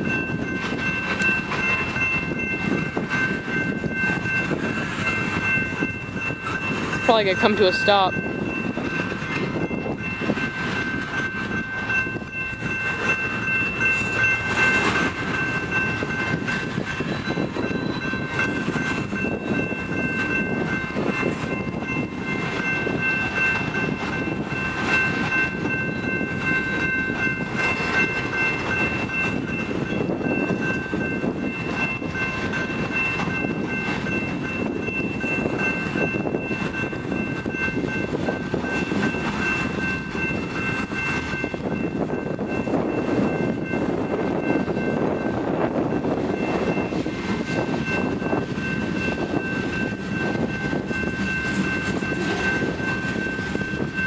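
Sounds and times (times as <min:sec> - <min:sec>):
freight train rumbling: 0:00.0 - 0:54.0
steady high tone: 0:00.0 - 0:54.0.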